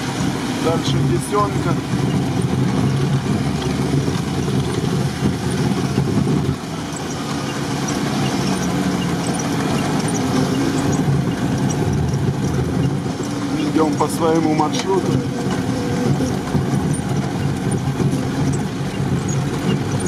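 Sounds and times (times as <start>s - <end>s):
vehicle engine running in cab: 0.0s - 20.0s.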